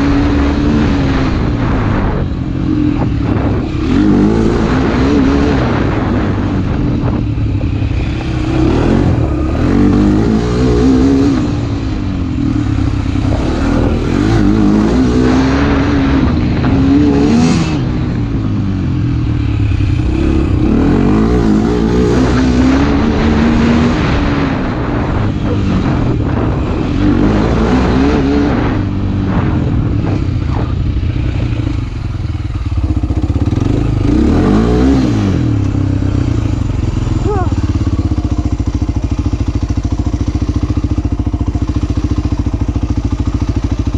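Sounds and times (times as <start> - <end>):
motorcycle engine accelerating: 0.0 - 43.9
steady rush of noise: 0.0 - 43.9.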